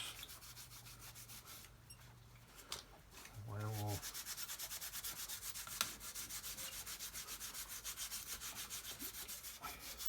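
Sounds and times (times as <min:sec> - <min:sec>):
rapid rubbing on steel: 0:00.0 - 0:01.8, 0:03.5 - 0:10.0.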